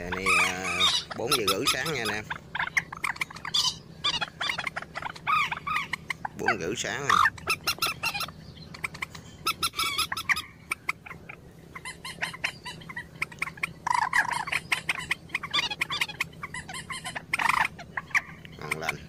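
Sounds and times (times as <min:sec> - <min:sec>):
loud bird calls: 0:00.0 - 0:19.0.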